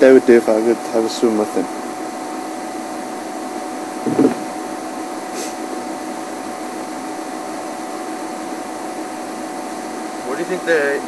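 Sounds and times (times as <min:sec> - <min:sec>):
faint constant tone: 0:00.0 - 0:11.0
steady hiss: 0:00.0 - 0:11.0.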